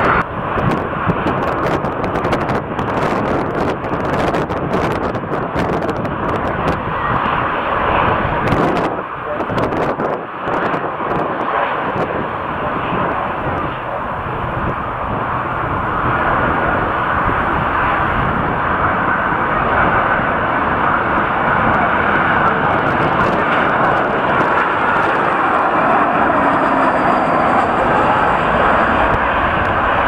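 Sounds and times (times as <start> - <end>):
jet engine roar: 0.0 - 30.0
wind buffeting microphone: 0.0 - 30.0.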